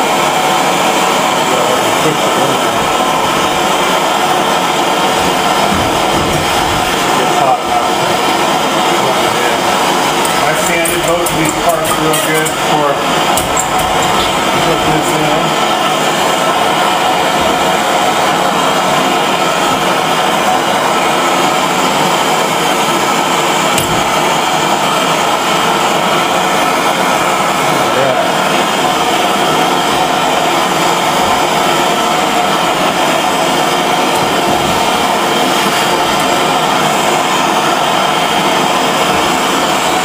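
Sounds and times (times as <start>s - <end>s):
gas torch hissing: 0.0s - 40.0s.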